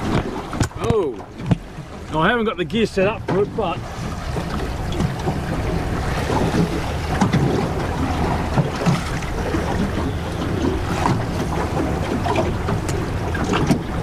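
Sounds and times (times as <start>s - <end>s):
waves slapping boat hull: 0.0s - 14.0s
wind buffeting microphone: 0.0s - 14.0s.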